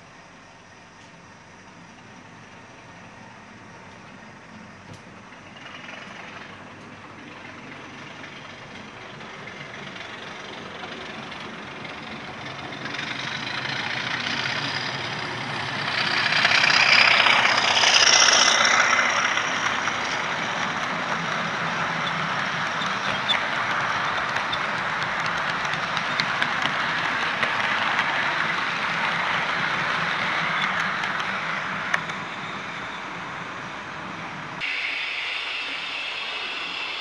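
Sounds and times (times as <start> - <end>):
model locomotive diesel engine: 0.0 - 37.0
model train running on track: 0.0 - 37.0.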